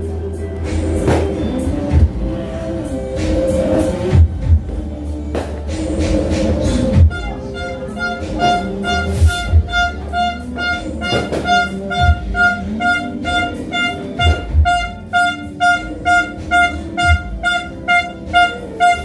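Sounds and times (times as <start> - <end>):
loud music through speaker: 0.0 - 19.0.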